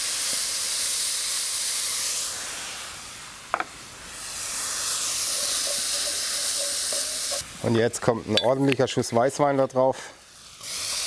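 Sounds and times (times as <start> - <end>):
food sizzling in hot oil: 0.0 - 8.7, 10.2 - 11.0.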